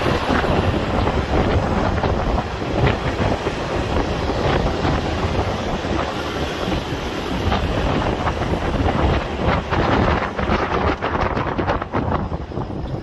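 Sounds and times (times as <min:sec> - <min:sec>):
vehicle tyres and engine rumble: 0:00.0 - 0:13.0.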